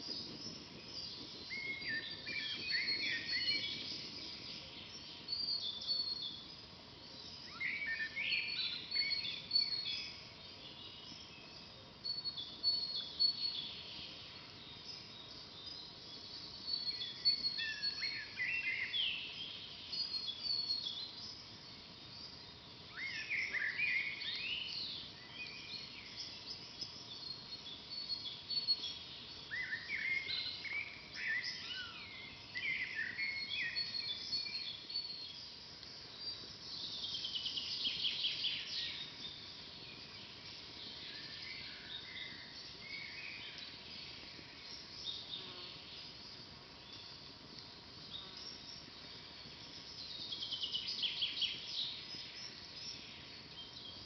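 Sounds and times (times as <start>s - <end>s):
faint steady hiss: 0.0s - 54.0s
songbirds chirping: 0.0s - 54.0s.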